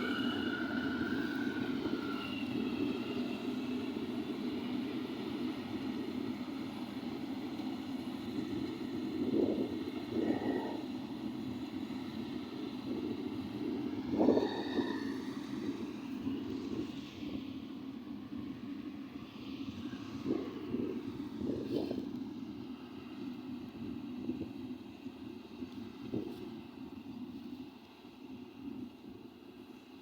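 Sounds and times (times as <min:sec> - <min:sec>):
engine running: 0:00.0 - 0:26.5.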